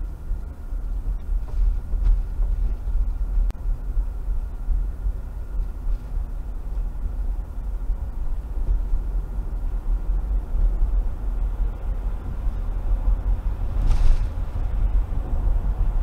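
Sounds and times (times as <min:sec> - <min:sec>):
car driving on wet pavement: 0:00.6 - 0:16.0.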